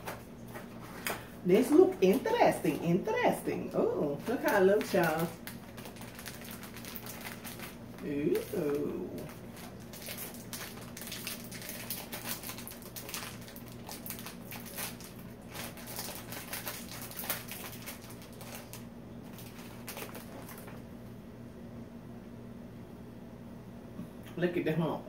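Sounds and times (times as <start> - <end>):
plastic wrapper crinkling: 0.0 - 20.9
steady low hum: 0.0 - 25.0.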